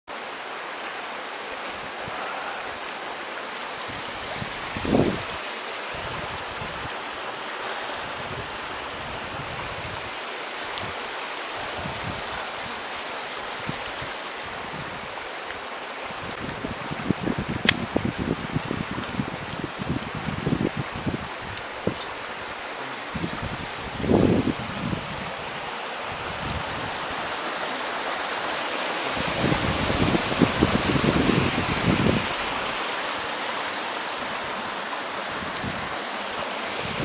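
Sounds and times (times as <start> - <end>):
stream rushing over rocks: 0.1 - 37.0.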